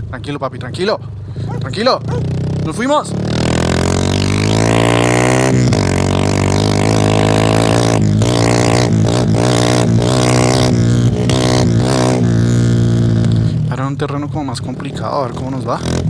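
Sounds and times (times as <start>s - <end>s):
motorcycle accelerating: 1.1s - 16.0s.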